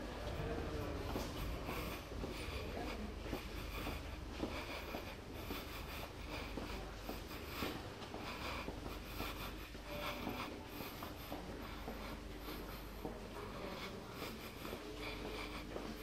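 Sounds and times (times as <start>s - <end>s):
footsteps in a tunnel: 0.0s - 16.0s.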